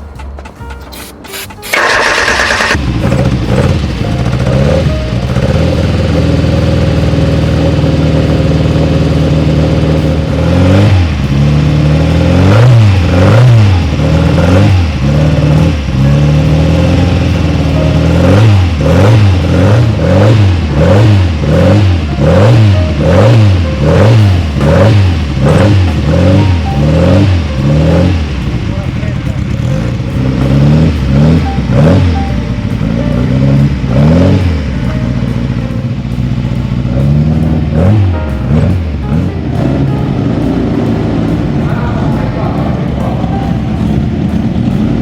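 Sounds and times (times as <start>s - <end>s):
car engine starting and revving: 0.0s - 45.0s.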